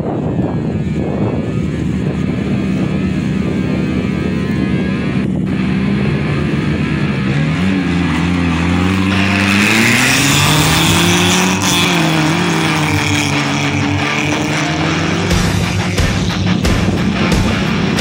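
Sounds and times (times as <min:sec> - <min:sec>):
rally car engine revving hard: 0:01.5 - 0:18.0.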